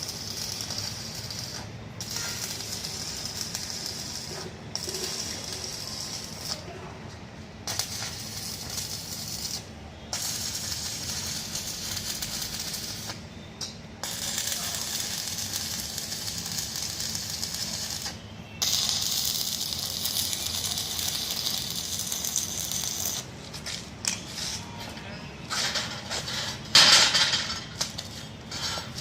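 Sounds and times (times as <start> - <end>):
arc welding crackling: 0.0 - 29.0.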